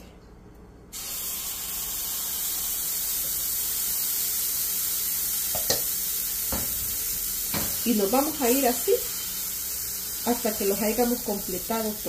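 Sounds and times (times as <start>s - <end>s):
batter sizzling in hot oil: 0.9s - 12.0s.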